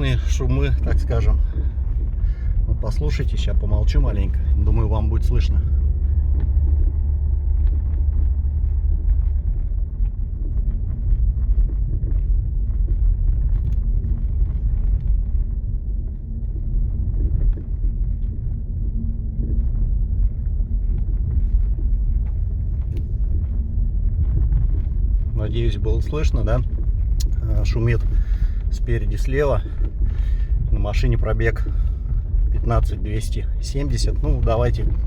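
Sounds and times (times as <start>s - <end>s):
road and engine rumble: 0.0s - 35.0s
suspension knocks over bumps: 0.0s - 35.0s.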